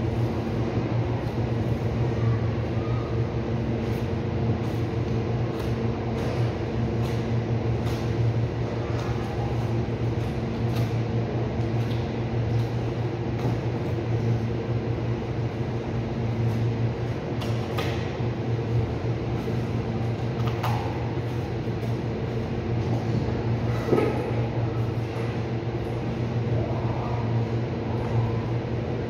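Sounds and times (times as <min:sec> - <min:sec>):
cooling unit humming: 0:00.0 - 0:29.0.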